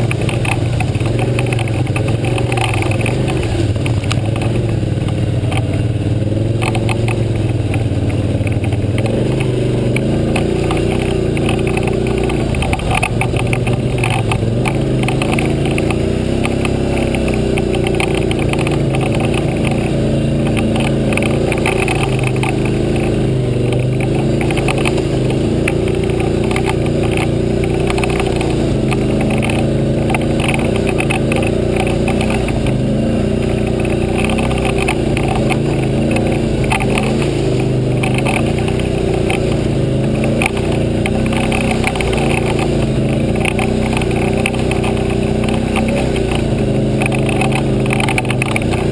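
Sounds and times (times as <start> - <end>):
atv engine running: 0.0 - 48.9
rattling and knocking over bumps: 0.0 - 48.9.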